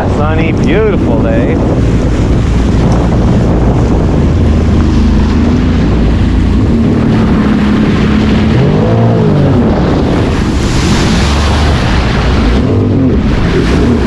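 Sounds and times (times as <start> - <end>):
personal watercraft engine running: 0.0 - 14.0
wind buffeting microphone: 0.0 - 14.0.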